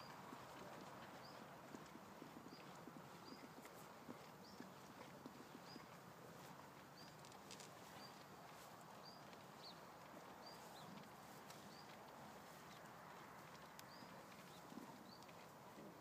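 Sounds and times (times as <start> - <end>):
cattle chewing: 0.0 - 16.0.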